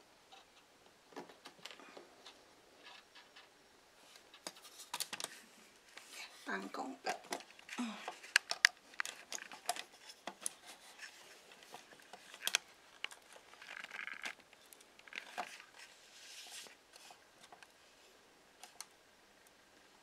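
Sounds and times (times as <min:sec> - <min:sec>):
crinkling scrapes: 0:01.2 - 0:17.7.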